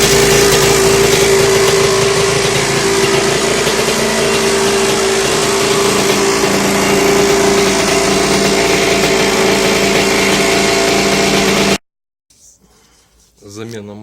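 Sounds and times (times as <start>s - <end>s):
two-stroke engine idling: 0.0s - 11.8s.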